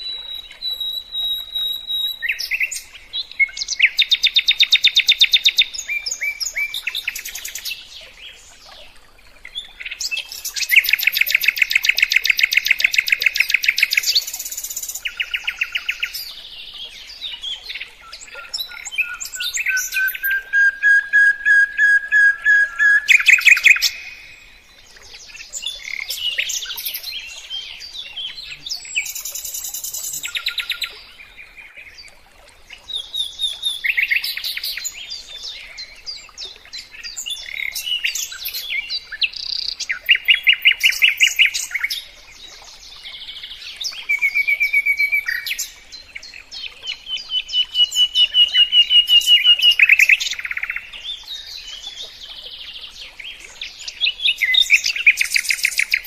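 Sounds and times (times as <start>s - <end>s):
songbird singing: 0.0s - 8.8s, 9.4s - 56.0s.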